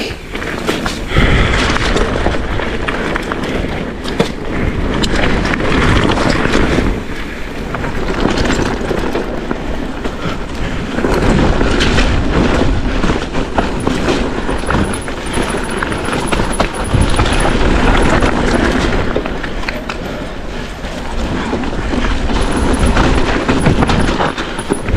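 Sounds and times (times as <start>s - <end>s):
bike rattling and clattering: 0.0s - 24.9s
tyres rumbling over stones: 0.0s - 24.9s.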